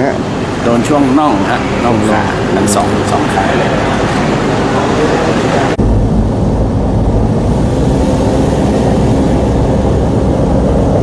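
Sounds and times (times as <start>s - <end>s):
car engine and road rumble: 0.1s - 11.0s.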